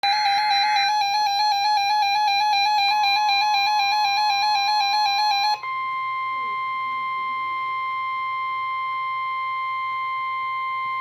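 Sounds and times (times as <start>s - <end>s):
pulsing buzzy alarm beep: 0.0s - 11.0s
steady warning alarm tone: 0.0s - 11.0s.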